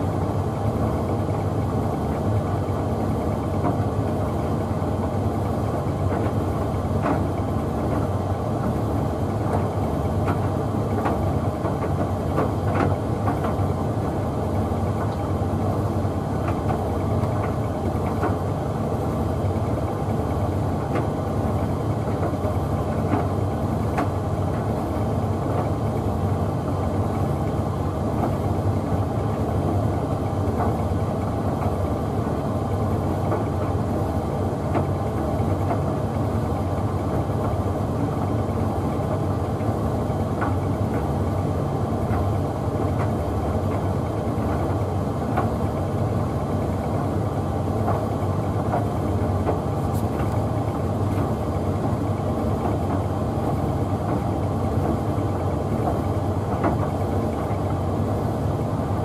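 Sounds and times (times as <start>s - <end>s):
tumble dryer motor humming: 0.0s - 59.0s.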